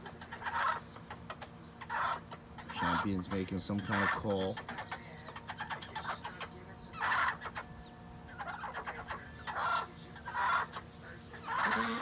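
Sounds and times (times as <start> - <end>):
hen calling: 0.0 - 12.0.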